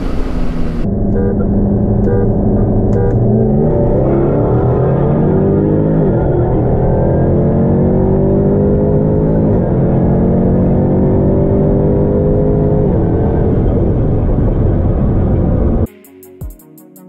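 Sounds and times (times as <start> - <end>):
sports car engines at full throttle: 0.0 - 15.9.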